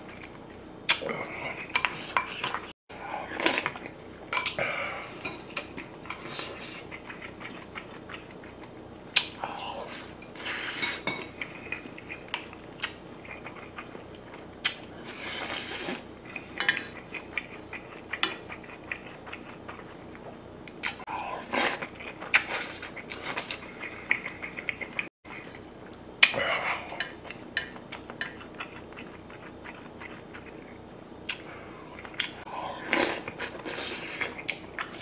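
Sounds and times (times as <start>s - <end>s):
slurping and chewing: 0.0s - 35.0s.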